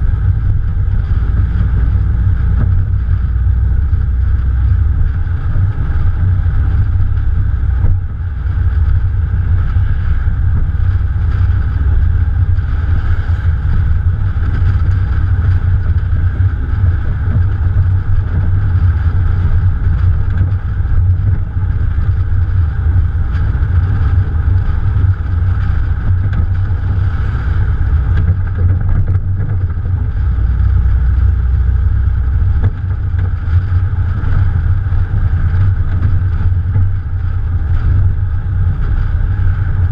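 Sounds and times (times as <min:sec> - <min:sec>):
car engine running: 0:00.0 - 0:39.9
wind and road rumble: 0:00.0 - 0:39.9.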